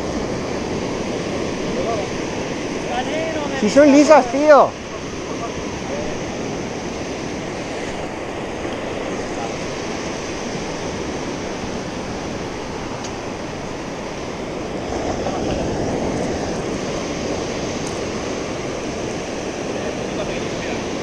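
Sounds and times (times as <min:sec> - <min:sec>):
small waves washing up beach: 0:00.0 - 0:21.0.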